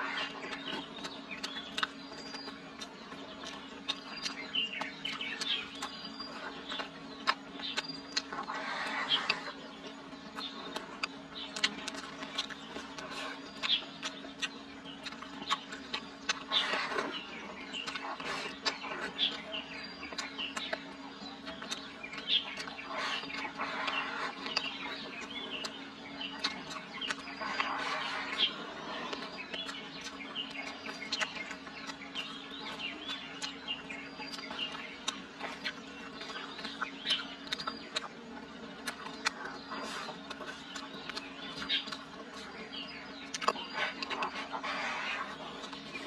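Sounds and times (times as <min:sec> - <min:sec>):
birds chirping: 0:00.0 - 0:46.0
mouth clicks and smacks: 0:00.0 - 0:46.0
person chewing food: 0:00.0 - 0:46.0.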